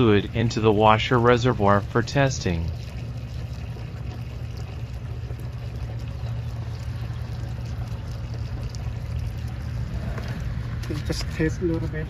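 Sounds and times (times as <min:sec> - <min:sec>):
fluid pouring into reservoir: 0:00.0 - 0:11.8
constant low hum: 0:00.0 - 0:12.0.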